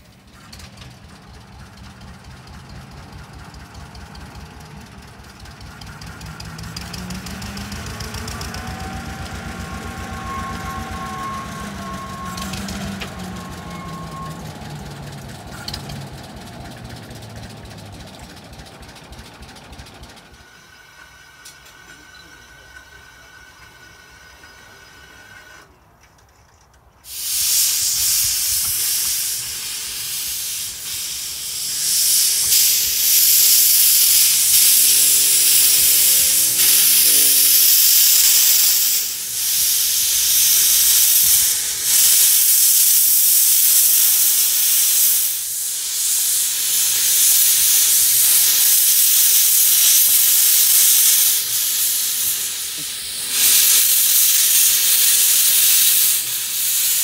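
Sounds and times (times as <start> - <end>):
steam locomotive hissing: 0.0 - 25.8, 27.0 - 57.0.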